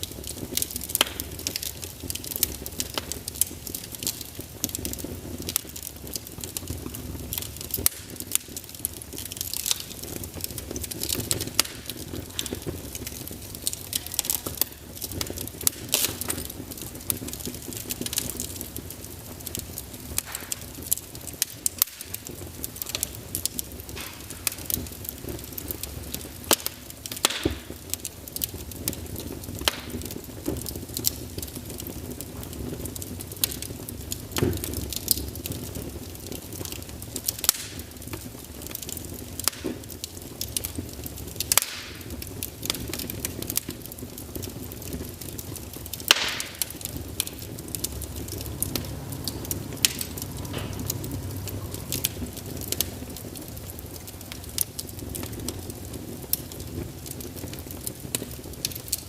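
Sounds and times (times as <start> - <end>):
low rumble of flame: 0.0 - 59.0
wood fire crackling and popping: 0.0 - 59.0.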